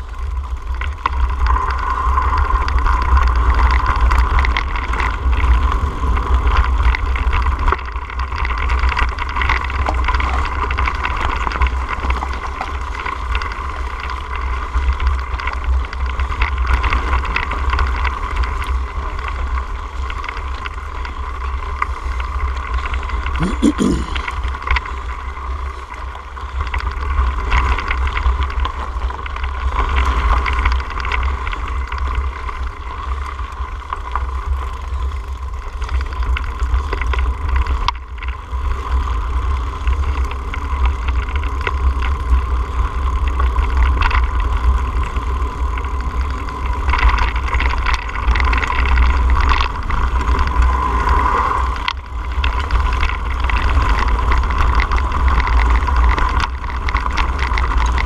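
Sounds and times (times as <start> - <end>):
bike rattling over rocks: 0.0 - 23.4, 24.4 - 58.0
wind rumble on microphone: 0.0 - 23.4, 24.3 - 58.0.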